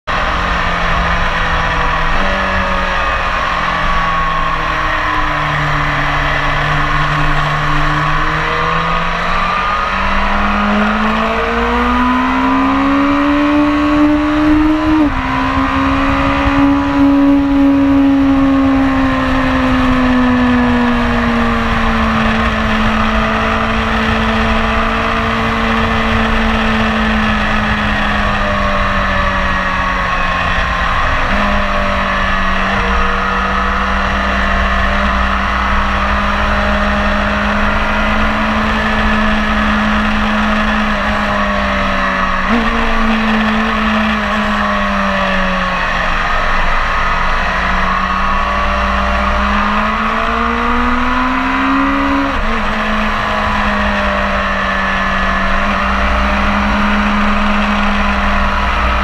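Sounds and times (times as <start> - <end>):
motorcycle engine revving: 0.0 - 59.0
wind rushing over microphone: 4.0 - 59.0.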